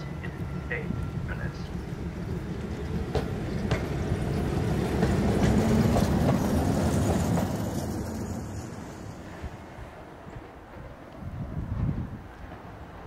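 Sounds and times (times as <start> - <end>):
streetcar running past: 0.0 - 13.0.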